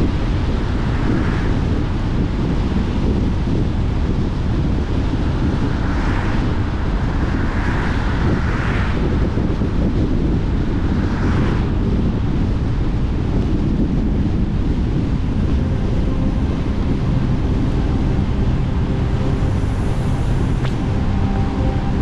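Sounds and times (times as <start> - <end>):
oncoming car passing: 0.0 - 13.1, 14.1 - 22.0
car rumble on wet road: 0.0 - 22.0
wind on microphone: 0.0 - 22.0.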